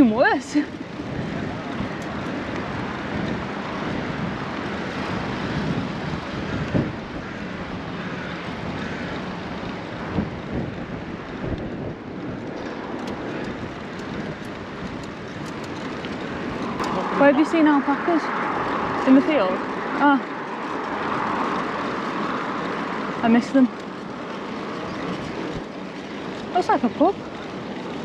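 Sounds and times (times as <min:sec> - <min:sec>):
wind rushing on microphone: 0:00.0 - 0:28.0.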